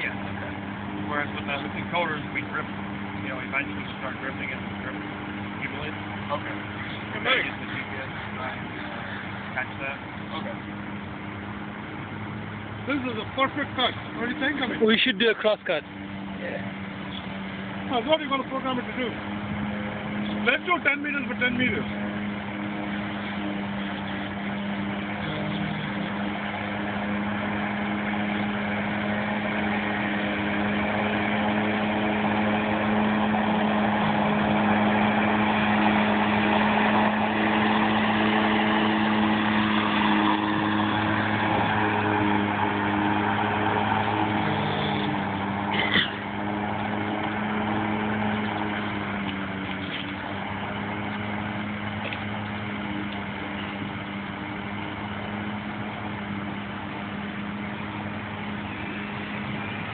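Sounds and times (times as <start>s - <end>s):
robotic lawnmower humming: 0.0s - 59.9s.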